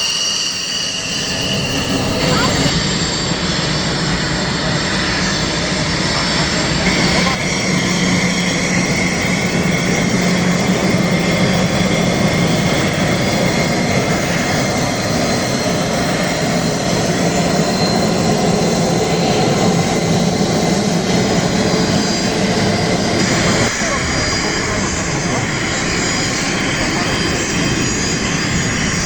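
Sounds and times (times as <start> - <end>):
jet engine running: 0.0 - 29.0
low hum: 0.0 - 29.0.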